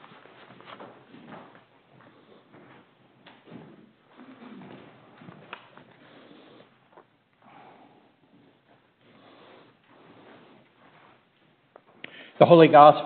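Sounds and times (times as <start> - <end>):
faint rustling and shuffling: 0.0 - 12.8.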